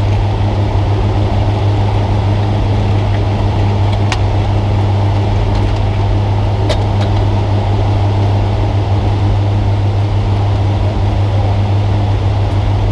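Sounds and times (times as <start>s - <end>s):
truck engine drone in cab: 0.0s - 12.9s.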